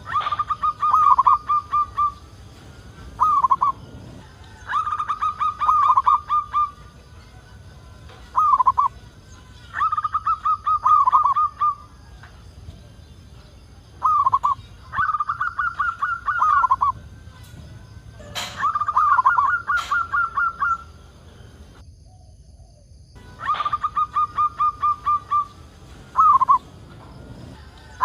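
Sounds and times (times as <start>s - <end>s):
dove cooing song: 0.0s - 28.0s.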